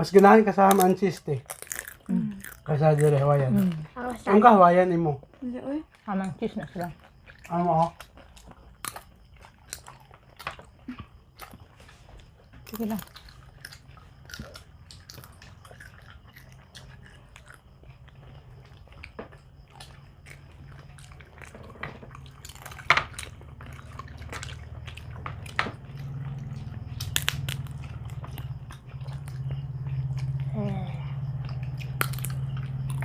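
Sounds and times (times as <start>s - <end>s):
people chewing food: 0.0s - 33.0s.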